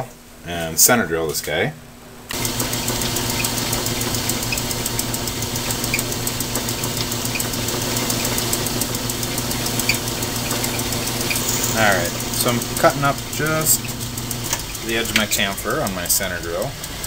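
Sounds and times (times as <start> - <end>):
drill chirps cutting metal: 2.3 - 17.0
metal lathe humming and ticking: 2.3 - 17.0.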